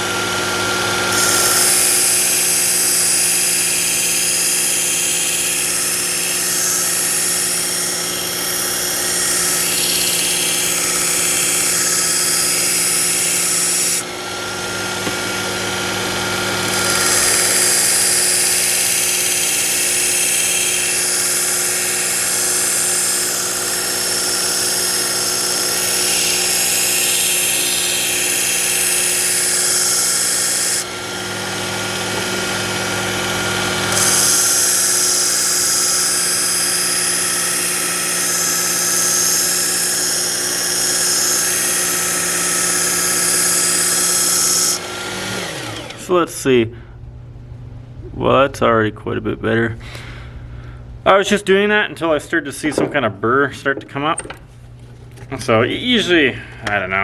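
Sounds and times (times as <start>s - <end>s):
belt sharpener motor hum: 0.0s - 46.1s.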